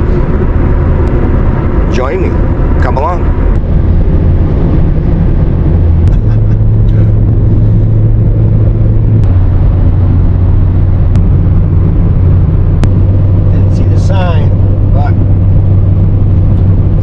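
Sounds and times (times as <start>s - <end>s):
road and engine drone: 0.0s - 17.0s.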